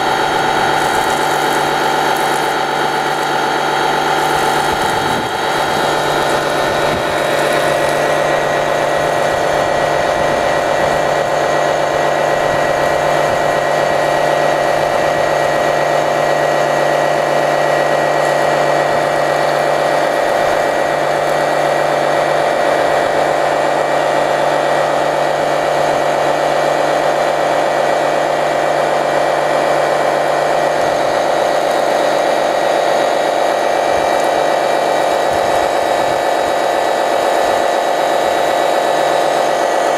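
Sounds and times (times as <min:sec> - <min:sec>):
small electric motors whining: 0:00.0 - 0:27.7, 0:29.2 - 0:39.9.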